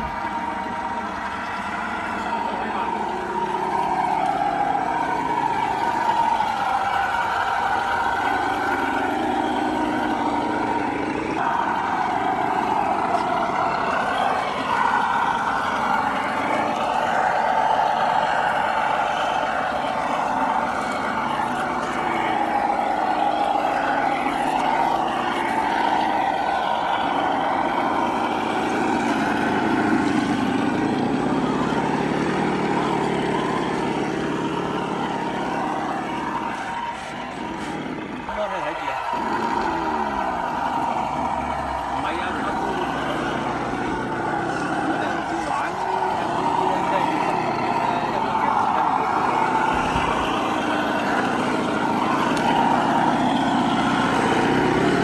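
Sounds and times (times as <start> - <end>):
electric motor and gearbox whining: 0.0 - 55.0.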